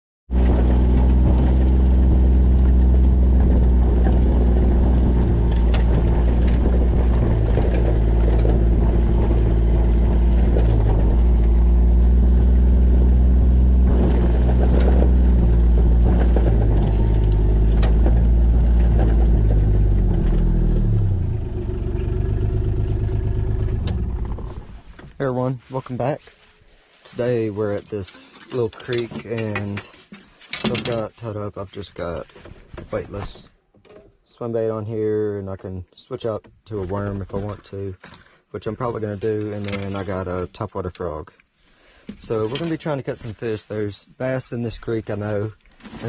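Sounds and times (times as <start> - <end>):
vehicle engine rumbling: 0.3 - 46.0.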